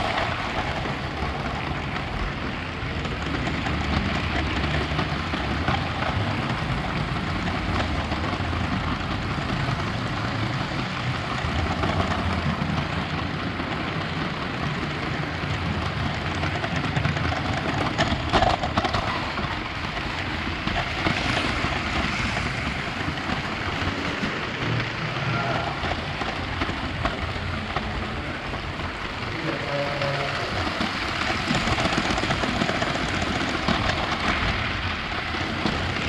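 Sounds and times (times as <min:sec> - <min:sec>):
toy train rattling on track: 0:00.0 - 0:36.0.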